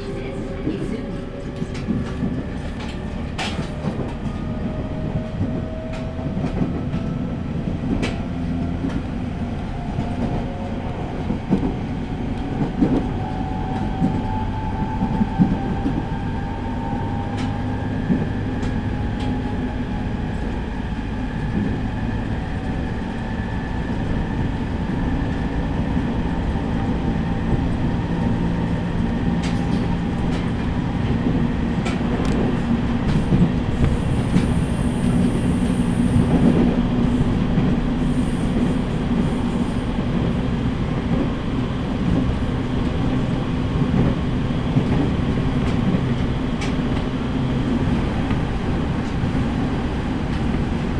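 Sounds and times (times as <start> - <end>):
train traction motors humming: 0.0 - 50.9.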